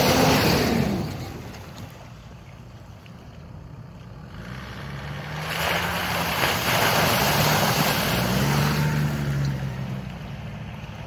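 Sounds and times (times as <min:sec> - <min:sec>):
water splashing around wheels: 0:00.0 - 0:11.0.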